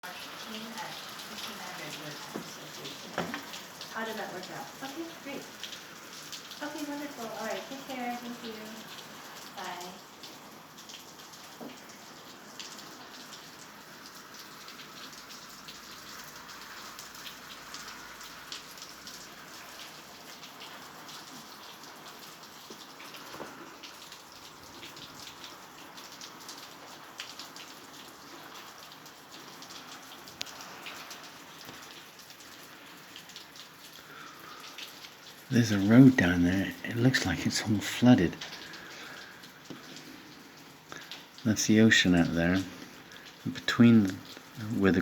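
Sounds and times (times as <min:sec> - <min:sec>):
raindrops ticking on surfaces: 0:00.0 - 0:45.0
steady rain falling: 0:00.0 - 0:45.0.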